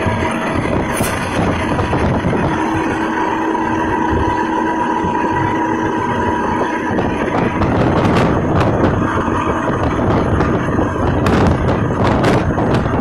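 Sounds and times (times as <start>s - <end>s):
road noise inside cab: 0.0s - 13.0s
truck engine drone: 0.0s - 13.0s.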